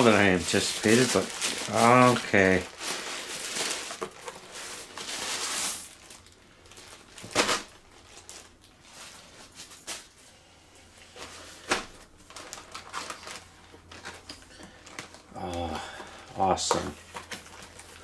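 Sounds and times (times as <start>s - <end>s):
plastic wrapping crinkling: 0.0s - 10.2s, 11.0s - 15.8s, 16.5s - 18.0s.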